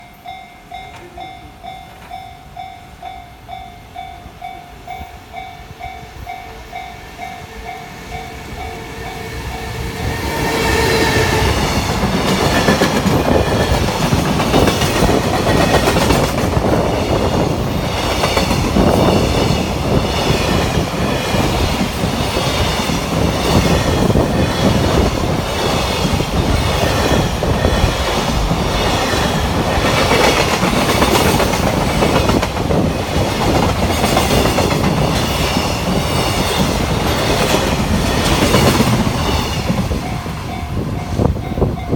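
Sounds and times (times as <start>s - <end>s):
freight train wheels clattering: 6.2s - 41.9s.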